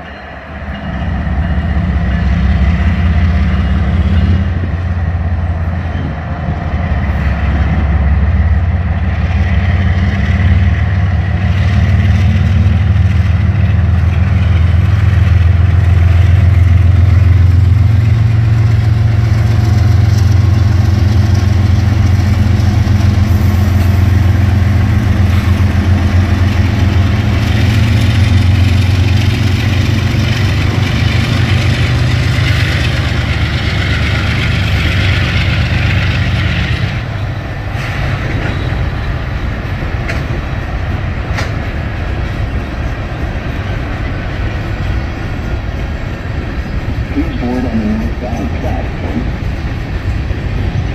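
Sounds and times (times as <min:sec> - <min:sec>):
diesel locomotives rumbling: 0:00.0 - 0:50.9.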